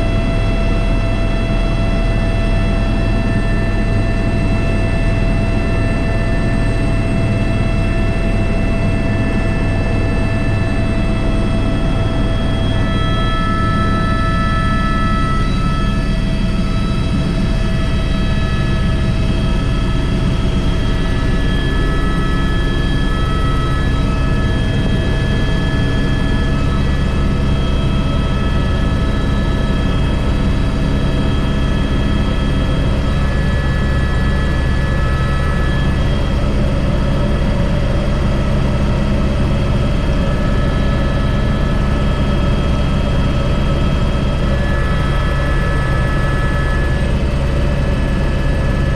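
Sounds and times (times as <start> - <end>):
helicopter turbine and rotor rumble: 0.0 - 48.9
whining tones: 0.3 - 48.9.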